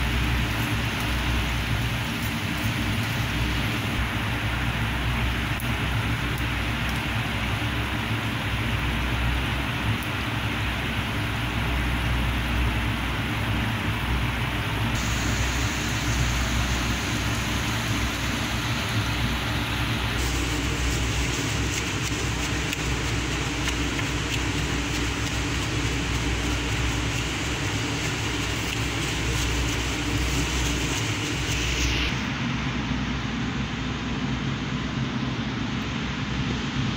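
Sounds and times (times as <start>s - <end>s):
hot oil sizzling: 0.0s - 32.2s.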